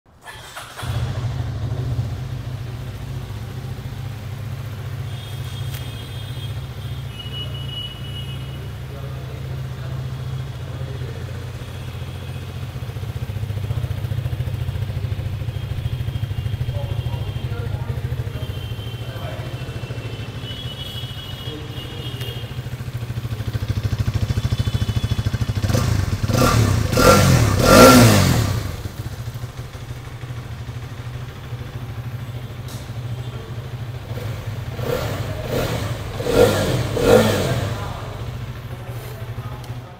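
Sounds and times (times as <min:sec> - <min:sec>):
motorcycle engine idling and revving: 0:00.1 - 0:39.9.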